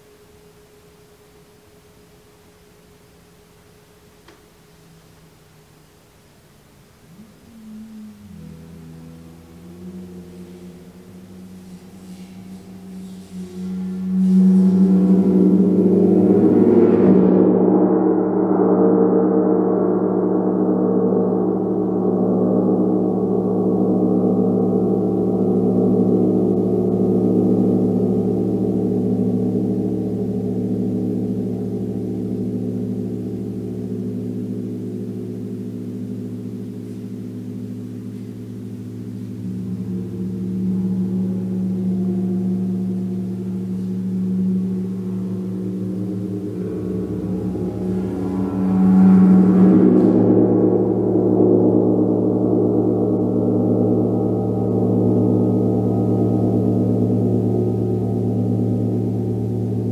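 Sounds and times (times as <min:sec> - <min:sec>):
gong ringing: 0:07.5 - 0:59.9.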